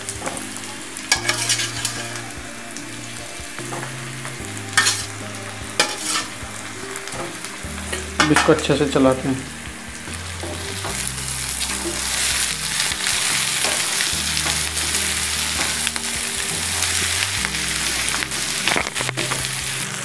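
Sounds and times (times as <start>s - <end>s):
vegetables sizzling in hot oil: 0.0s - 20.0s
wooden spatula stirring: 0.1s - 20.0s.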